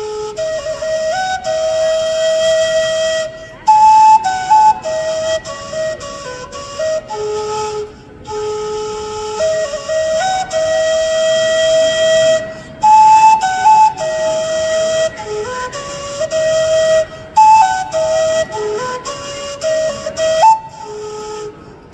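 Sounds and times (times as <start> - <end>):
flute playing bird-like melody: 0.0 - 21.9.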